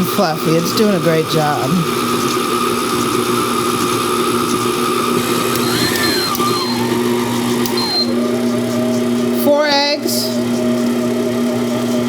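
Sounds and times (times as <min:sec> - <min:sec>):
stand mixer motor humming: 0:00.0 - 0:12.0.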